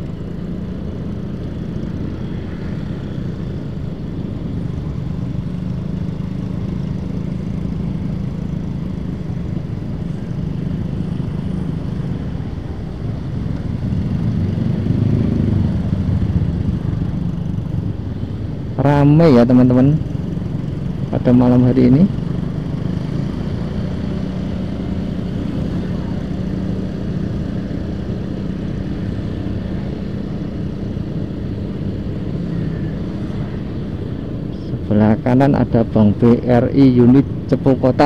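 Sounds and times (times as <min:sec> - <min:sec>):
motorcycle engine running: 0:00.0 - 0:38.0
other motorcycles in traffic: 0:00.0 - 0:38.0.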